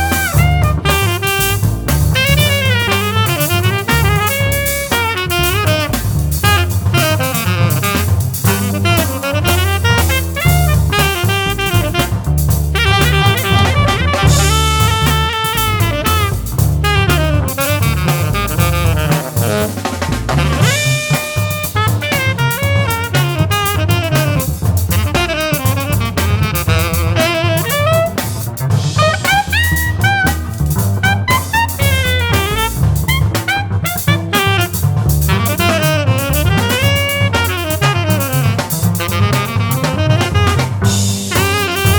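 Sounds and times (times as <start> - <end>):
drum kit: 0.0 - 41.9
low bass line: 0.0 - 41.9
saxophone melodic runs: 0.0 - 41.9.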